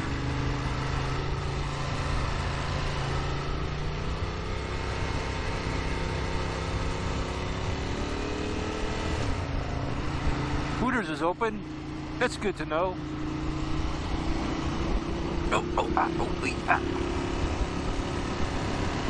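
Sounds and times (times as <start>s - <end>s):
motorcycle engine cruising: 0.0s - 19.0s.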